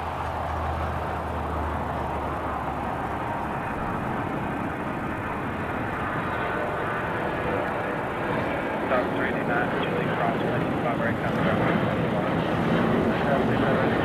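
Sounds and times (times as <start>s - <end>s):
distant traffic: 0.0s - 14.0s.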